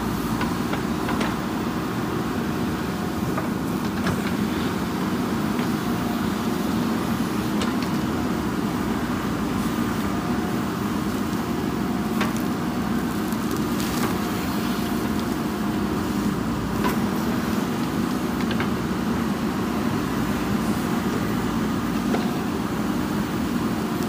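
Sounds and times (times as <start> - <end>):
backhoe digging soil: 0.0 - 24.0
diesel engine running under load: 0.0 - 24.0.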